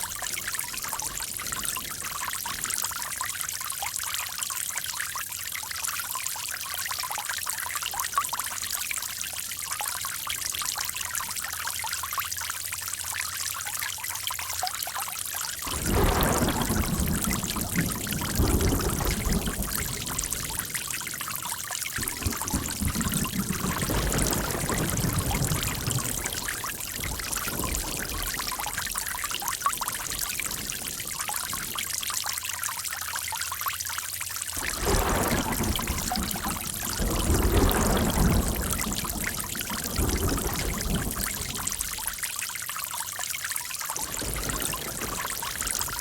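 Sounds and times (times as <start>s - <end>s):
running water pouring and trickling: 0.0s - 46.0s.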